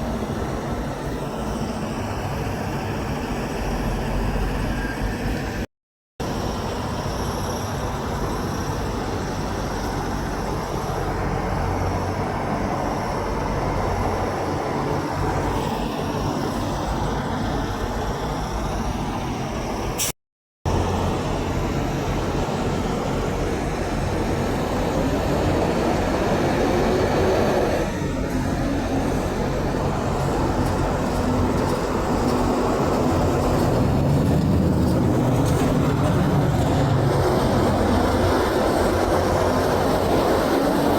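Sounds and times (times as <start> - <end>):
trucks and traffic rumbling past: 0.0 - 20.1, 20.7 - 40.9.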